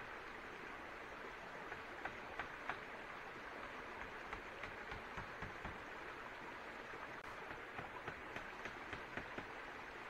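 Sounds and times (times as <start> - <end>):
light rain hiss: 0.0 - 10.0.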